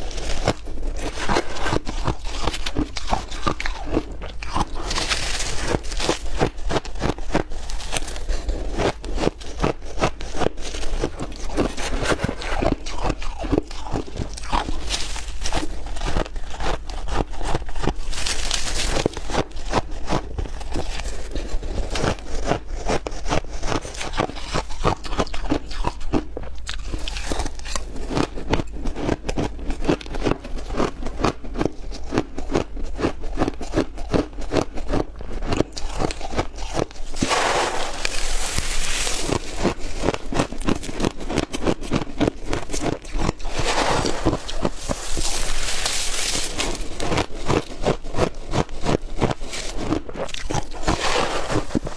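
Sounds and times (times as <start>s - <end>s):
ice being chewed: 0.0s - 51.9s.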